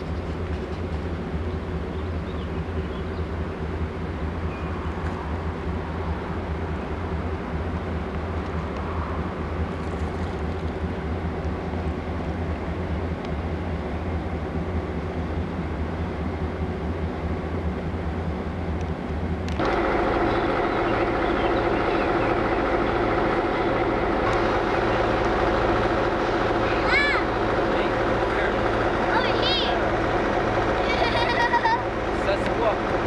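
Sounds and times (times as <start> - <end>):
passenger train running: 0.0 - 33.0
train engine with held tones: 0.0 - 33.0.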